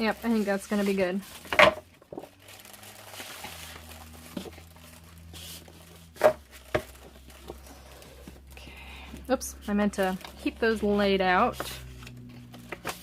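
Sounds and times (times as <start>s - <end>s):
paper rustling and sliding: 0.0s - 8.5s, 10.0s - 13.0s.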